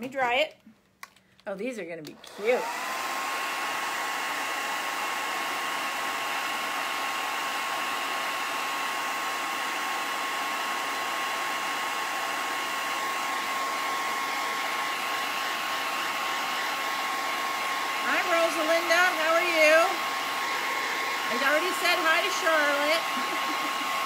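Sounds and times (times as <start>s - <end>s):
hair dryer blowing air: 2.0s - 24.0s.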